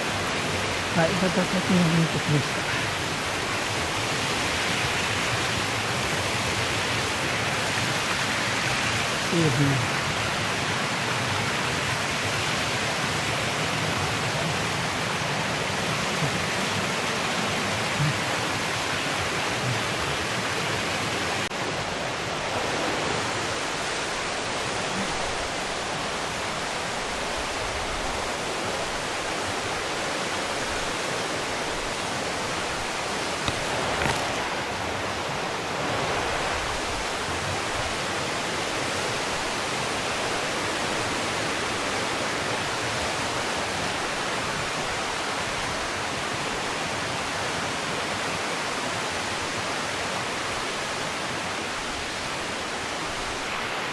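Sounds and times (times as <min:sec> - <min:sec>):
mountain stream rushing: 0:00.0 - 0:53.9.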